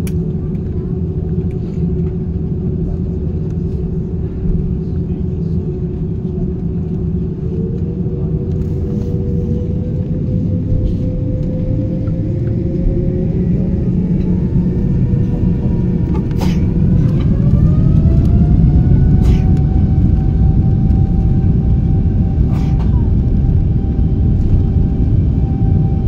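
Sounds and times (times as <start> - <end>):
heavy engine rumble: 0.0 - 26.0
jet engine whine: 0.0 - 26.0.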